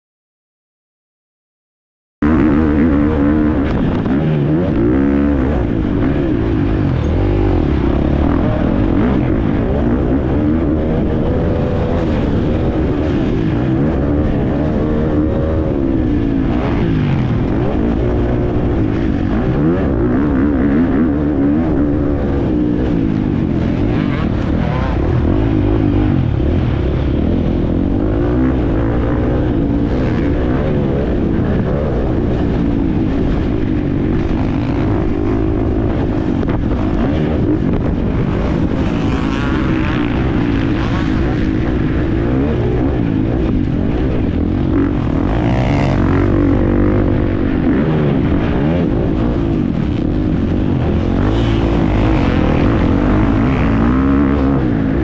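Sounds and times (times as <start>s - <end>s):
motocross bike engine revving: 2.2s - 55.0s
rushing wind: 2.2s - 55.0s.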